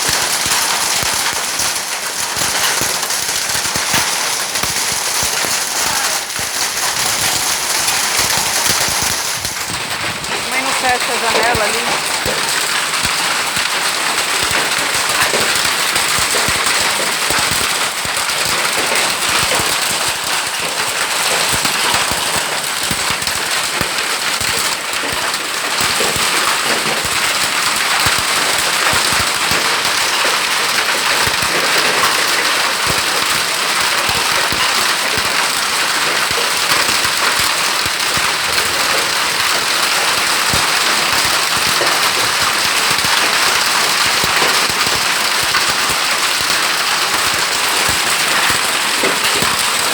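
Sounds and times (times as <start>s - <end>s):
hail clattering on hard surfaces: 0.0s - 49.9s
rain: 0.0s - 49.9s.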